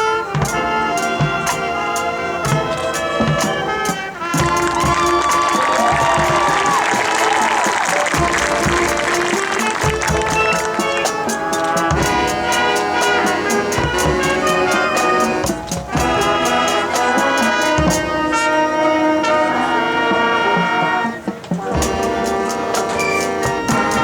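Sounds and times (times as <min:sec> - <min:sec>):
percussion beat: 0:00.0 - 0:18.6, 0:21.2 - 0:24.0
brass horns playing chords: 0:00.0 - 0:24.0.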